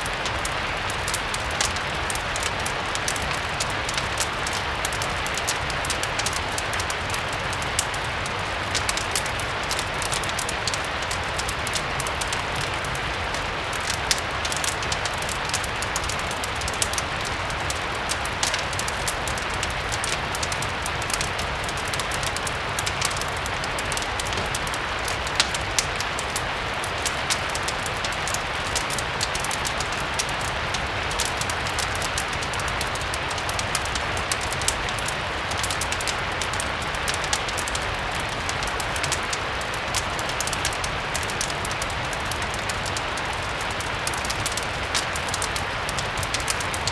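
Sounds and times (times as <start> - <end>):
fireplace crackles and pops: 0.0 - 46.9
rain hiss: 0.0 - 46.9.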